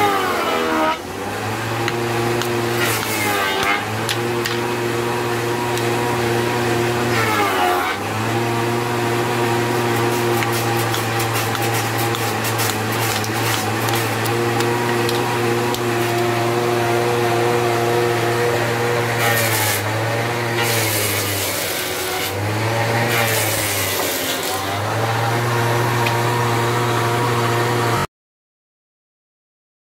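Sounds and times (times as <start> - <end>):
electric motor humming: 0.0 - 28.1
hissing of wood being cut: 0.0 - 28.1.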